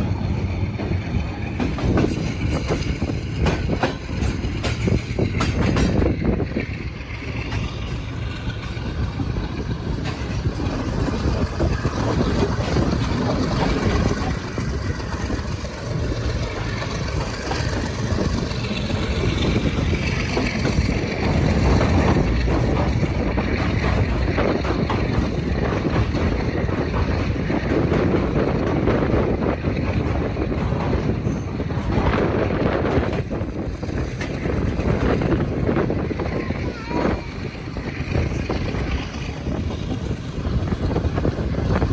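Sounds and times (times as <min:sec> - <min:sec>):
train wheels rumbling: 0:00.0 - 0:41.9.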